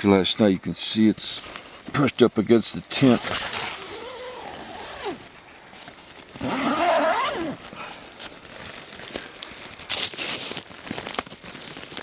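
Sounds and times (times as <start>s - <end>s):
tent fabric crinkling: 1.2s - 12.0s.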